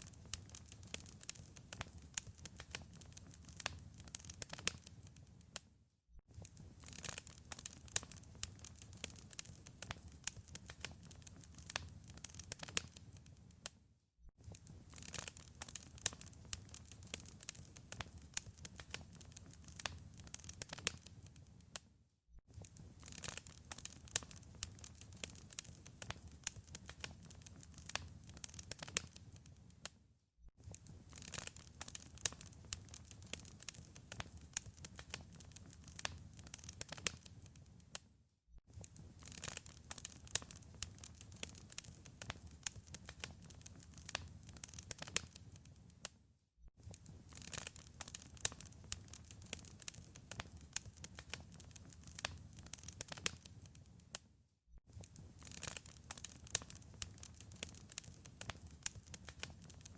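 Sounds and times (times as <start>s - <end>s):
wood fire crackling: 0.0s - 5.6s, 6.3s - 13.7s, 14.4s - 21.8s, 22.5s - 29.9s, 30.6s - 38.0s, 38.7s - 46.1s, 46.8s - 54.2s, 54.9s - 59.9s.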